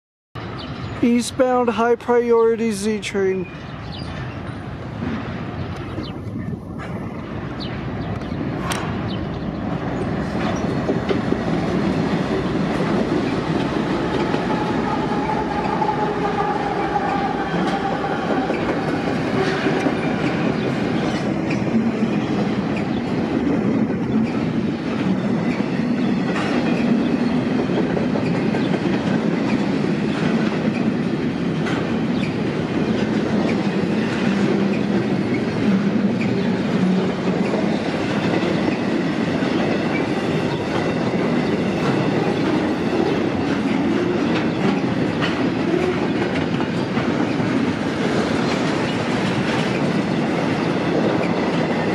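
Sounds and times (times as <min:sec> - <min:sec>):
diesel locomotives passing: 0:00.4 - 0:51.9.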